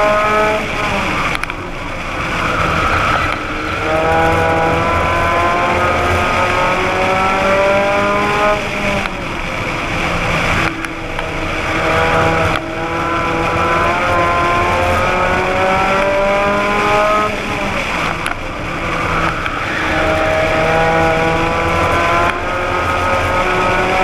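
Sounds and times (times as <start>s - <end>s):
race car engine revving: 0.0s - 24.0s
road and wind noise: 0.0s - 24.0s.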